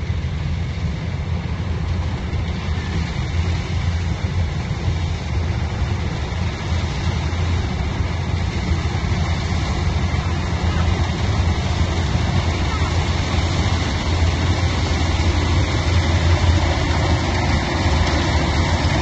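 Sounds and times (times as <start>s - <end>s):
heavy machinery engine drone: 0.0s - 19.0s.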